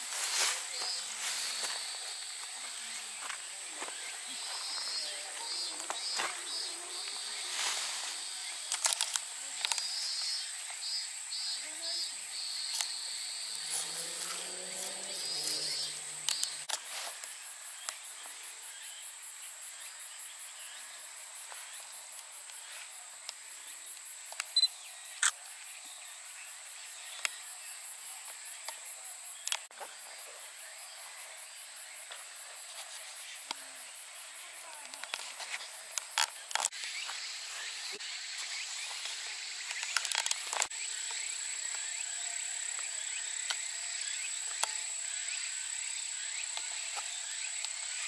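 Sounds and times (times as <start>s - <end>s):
high pulsing insect trill: 0.0s - 48.0s
insect chirping: 0.0s - 48.0s
insects buzzing: 0.0s - 48.0s.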